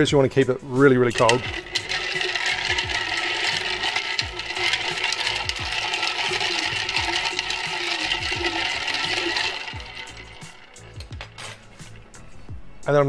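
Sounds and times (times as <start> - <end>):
ice clinking against glass: 1.1 - 12.1.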